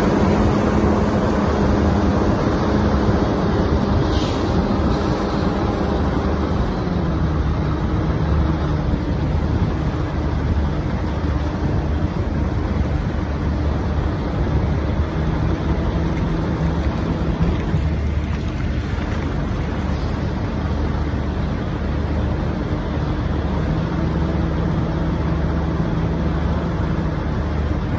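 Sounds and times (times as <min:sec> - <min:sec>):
truck engine drone: 0:00.0 - 0:27.9
tyre and road noise: 0:00.0 - 0:27.9.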